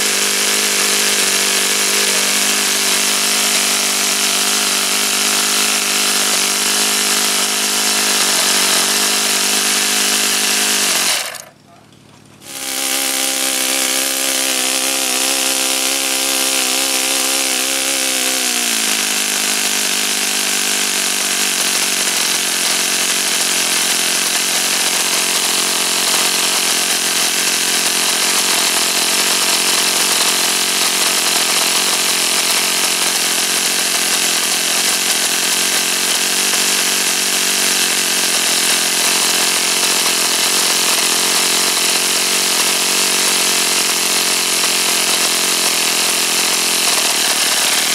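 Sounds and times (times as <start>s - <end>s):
model glow engine running: 0.0s - 47.9s.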